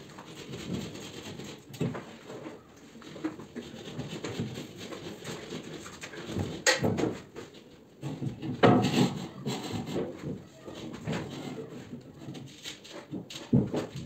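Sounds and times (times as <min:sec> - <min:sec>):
knocking and scraping: 0:00.0 - 0:14.0.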